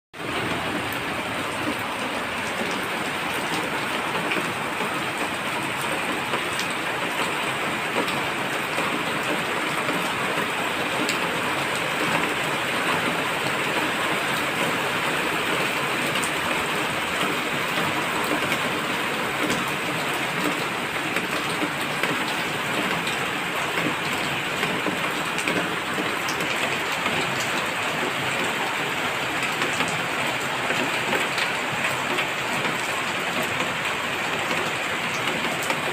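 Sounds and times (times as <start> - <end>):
raindrops ticking: 0.2 - 35.9
steady rain falling: 0.2 - 35.9.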